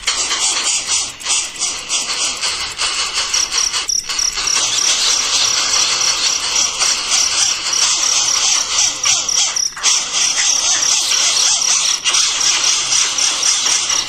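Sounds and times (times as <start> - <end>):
nestling birds chirping: 0.0 - 14.0.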